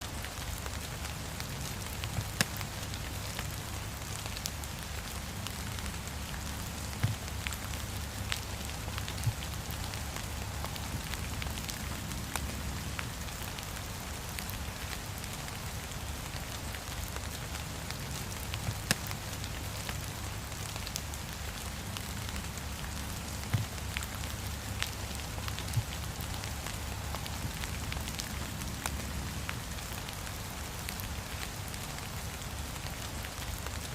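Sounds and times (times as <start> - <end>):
heavy rain falling: 0.0 - 33.9
wood fire crackling: 0.2 - 33.9.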